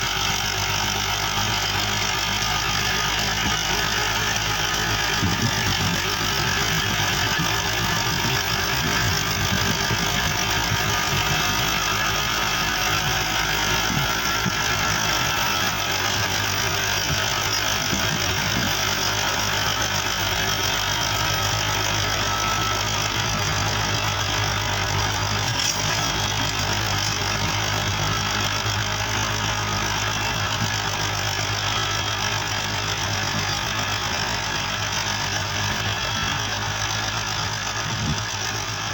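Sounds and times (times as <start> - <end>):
rotavator noise: 0.0 - 38.9
tractor diesel engine running: 0.0 - 38.9.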